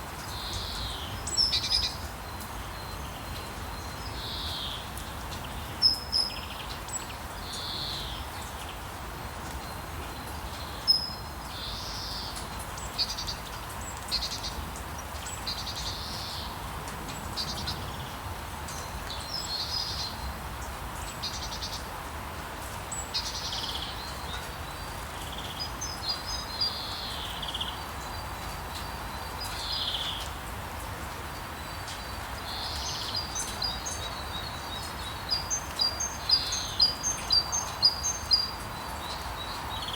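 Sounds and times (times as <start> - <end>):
songbirds singing: 0.0 - 39.9
steady rain hiss: 0.0 - 39.9.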